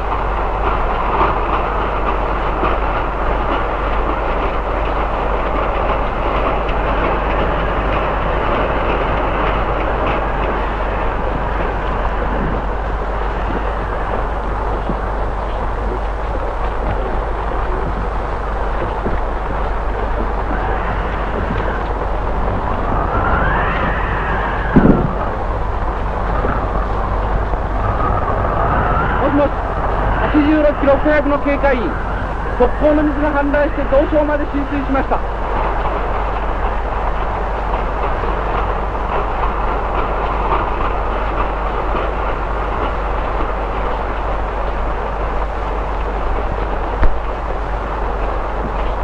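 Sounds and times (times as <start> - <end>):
heavy rain rushing: 0.0 - 49.0
train wheels rumbling: 0.0 - 49.0
wind howling: 0.0 - 49.0.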